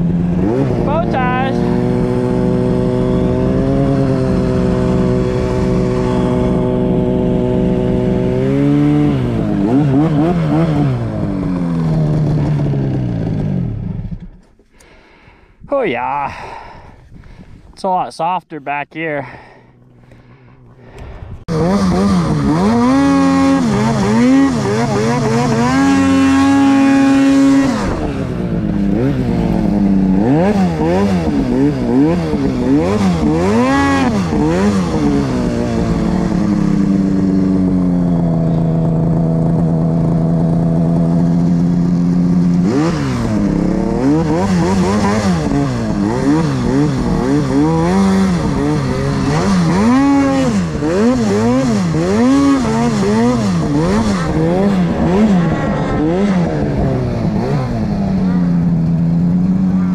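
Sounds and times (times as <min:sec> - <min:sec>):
snowmobile engine revving: 0:00.0 - 0:14.3, 0:19.0 - 0:59.9.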